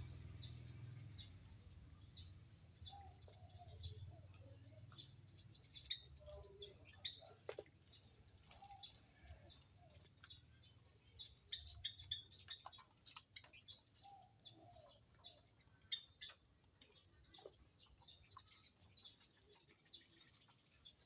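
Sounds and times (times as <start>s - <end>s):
small birds chirping: 0.0s - 21.0s
soft low bird calls: 0.0s - 21.0s.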